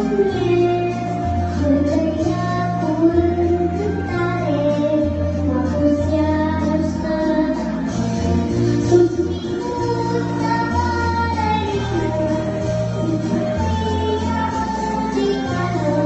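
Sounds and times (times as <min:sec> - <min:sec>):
girl singing into microphone: 0:00.0 - 0:16.0
music with bass line: 0:00.0 - 0:16.0.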